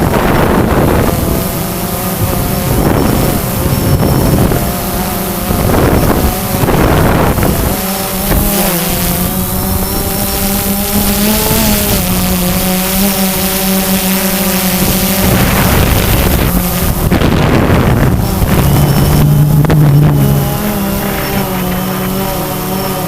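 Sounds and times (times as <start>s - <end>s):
drone propellers humming: 0.0s - 23.0s
wind buffeting microphone: 0.0s - 23.0s.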